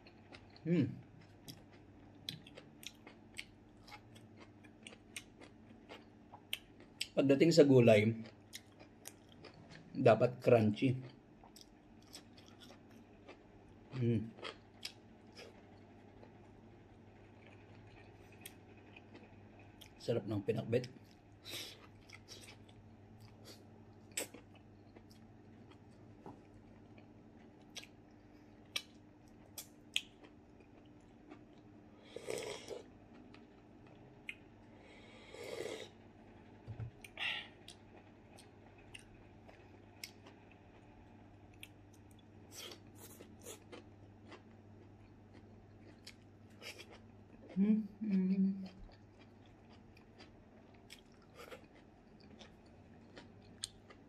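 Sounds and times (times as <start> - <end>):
person chewing crunchy food: 0.0 - 7.1, 8.2 - 10.0, 11.0 - 20.0, 20.8 - 47.6, 48.6 - 54.0.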